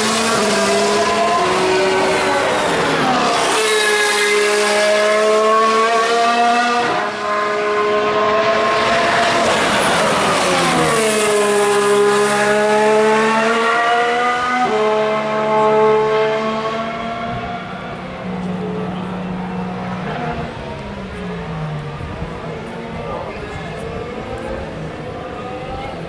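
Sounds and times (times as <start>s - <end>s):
racing car engine accelerating: 0.0s - 26.0s.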